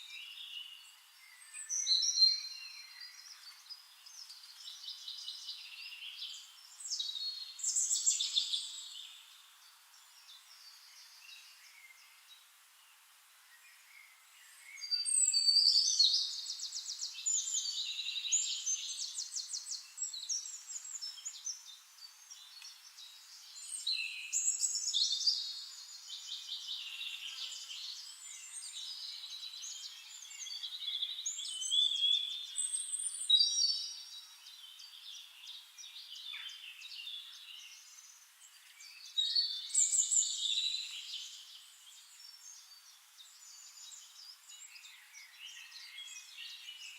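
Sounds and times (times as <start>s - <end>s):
songbirds singing: 0.0s - 46.9s.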